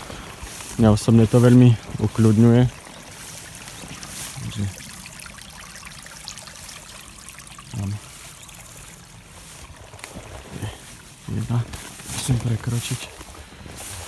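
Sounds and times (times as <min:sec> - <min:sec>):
brook trickling: 0:00.0 - 0:14.0.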